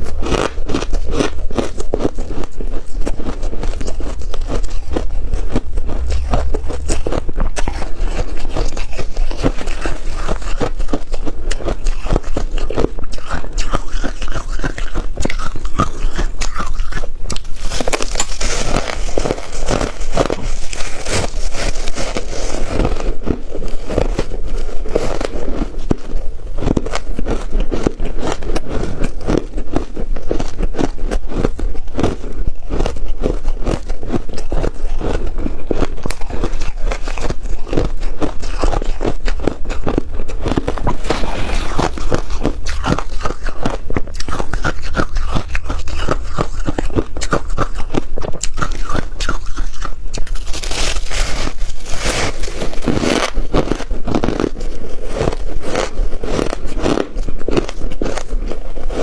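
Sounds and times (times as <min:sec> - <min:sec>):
frost crunching while chewed: 0:00.0 - 0:59.0.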